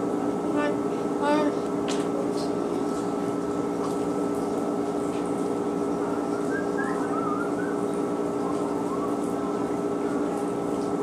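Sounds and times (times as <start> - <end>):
laundry machine humming: 0.0 - 11.0.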